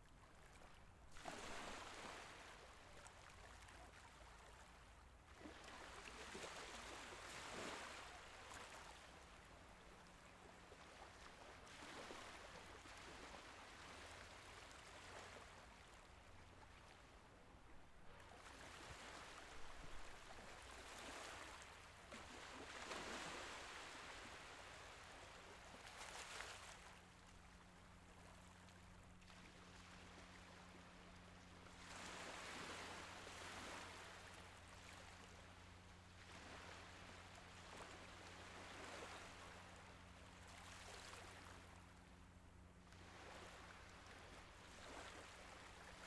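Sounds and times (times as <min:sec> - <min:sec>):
gentle sea waves washing: 0:05.3 - 0:46.0.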